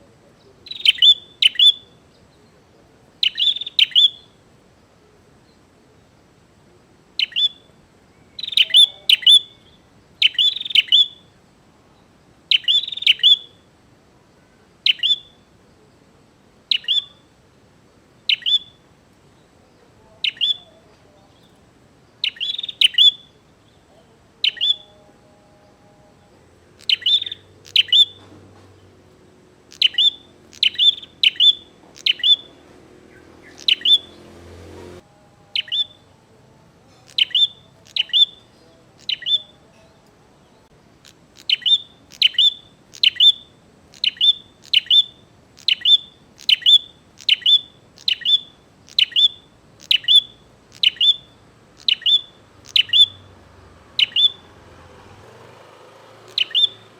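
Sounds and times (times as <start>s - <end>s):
bird chirping: 0.0s - 6.4s, 7.2s - 13.7s, 14.4s - 56.9s.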